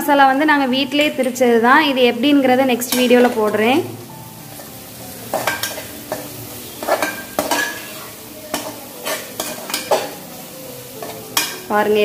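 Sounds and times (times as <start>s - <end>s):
food sizzling in oil: 0.3s - 12.0s.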